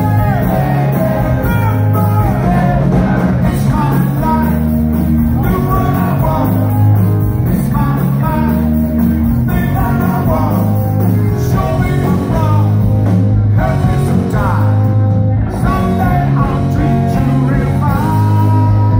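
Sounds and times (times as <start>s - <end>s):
live rock band playing: 0.0s - 18.9s.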